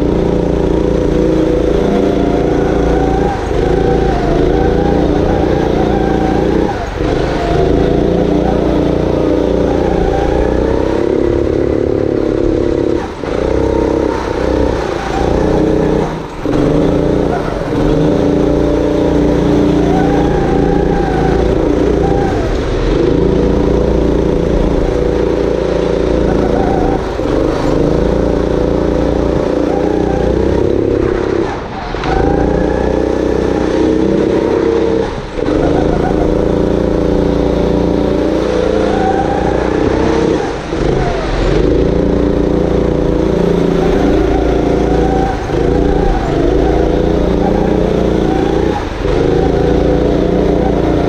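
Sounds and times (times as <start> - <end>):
go-kart engine revving: 0.0 - 51.0.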